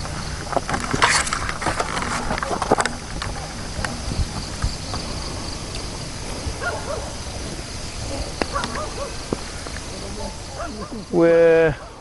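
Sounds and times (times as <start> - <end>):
wind: 0.0 - 12.0
distant animal calls: 2.2 - 12.0.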